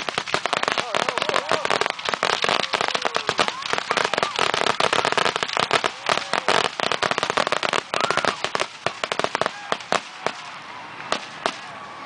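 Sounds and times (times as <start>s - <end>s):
fireworks crackling bangs: 0.0s - 11.8s.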